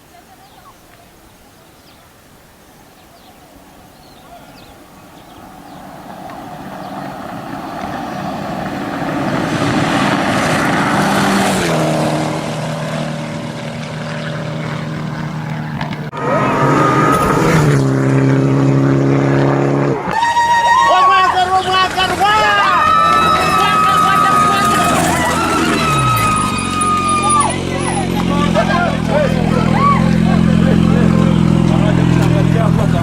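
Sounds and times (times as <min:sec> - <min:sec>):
rally car engine passing: 0:03.6 - 0:33.0.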